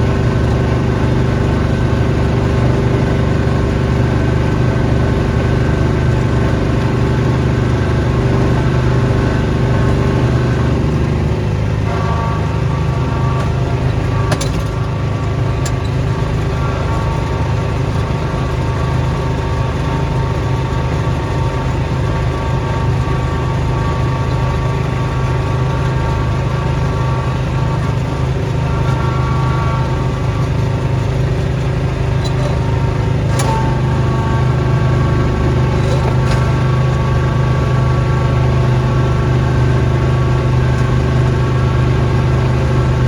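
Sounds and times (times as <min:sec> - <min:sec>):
snowblower engine running: 0:00.0 - 0:43.0.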